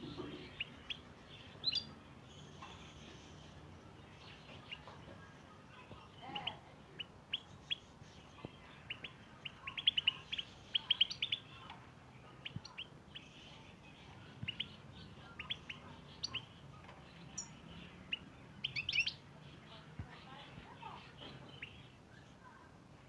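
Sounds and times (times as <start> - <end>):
goldfinches chirping and twittering: 0.0 - 22.3.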